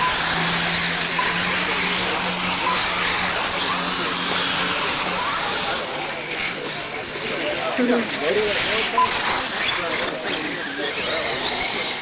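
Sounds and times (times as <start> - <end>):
electric motor whir: 0.0 - 12.0
tyres on dirt track: 0.0 - 12.0.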